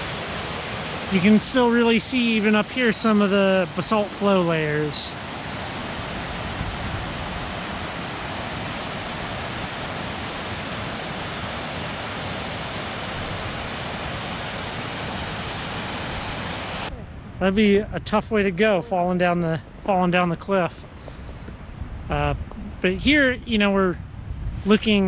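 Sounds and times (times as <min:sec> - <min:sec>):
waterfall and rapids roaring: 0:00.0 - 0:23.8.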